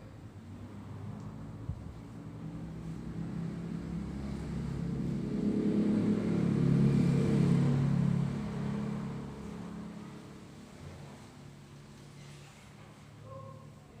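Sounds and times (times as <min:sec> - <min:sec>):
vehicle engine passing by: 0:00.4 - 0:13.0.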